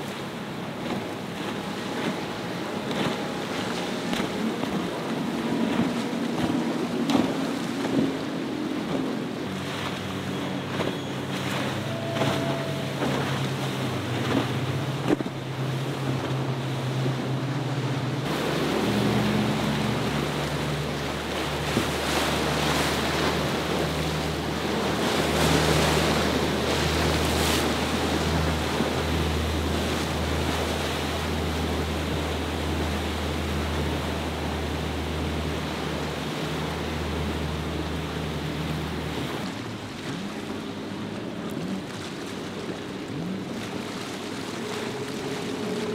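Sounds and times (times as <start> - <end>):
water hissing along hull: 0.0 - 41.3
boat engines running: 0.0 - 45.9.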